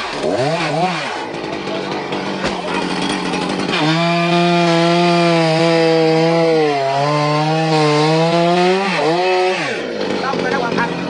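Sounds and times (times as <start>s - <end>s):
chainsaw cutting wood: 0.0s - 11.0s.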